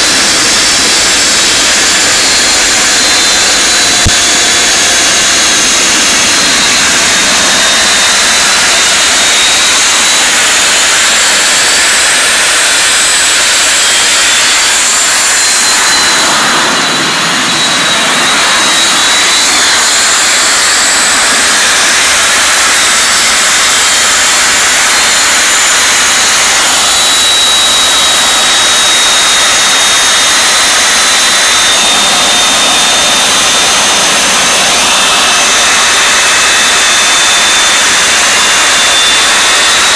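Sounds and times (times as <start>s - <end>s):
high-pitched whines: 0.0s - 39.9s
small jet engine running: 0.0s - 39.9s.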